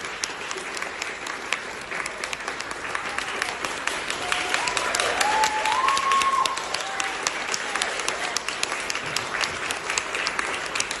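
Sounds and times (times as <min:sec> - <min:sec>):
audience applauding: 0:00.0 - 0:11.0
people cheering: 0:01.7 - 0:11.0.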